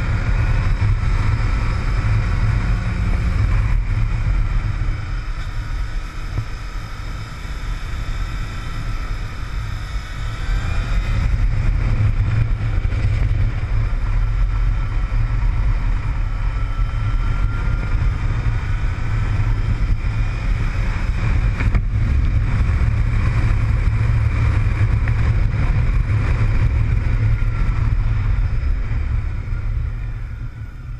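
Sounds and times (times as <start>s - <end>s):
wind rumble on microphone: 0.0s - 30.9s.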